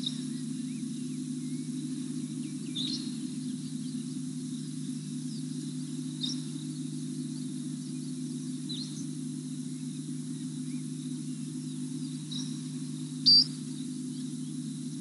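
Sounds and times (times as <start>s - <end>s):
faint bird chirps: 0.0s - 15.0s
steady low hum: 0.0s - 15.0s.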